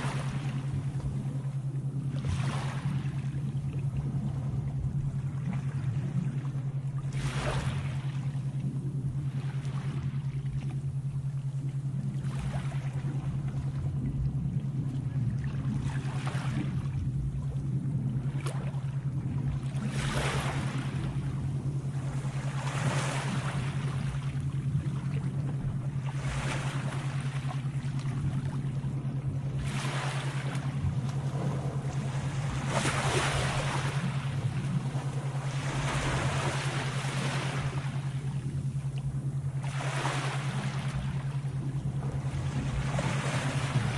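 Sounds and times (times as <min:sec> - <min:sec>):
sea waves washing in: 0:00.0 - 0:43.9
steady low hum: 0:00.0 - 0:43.9.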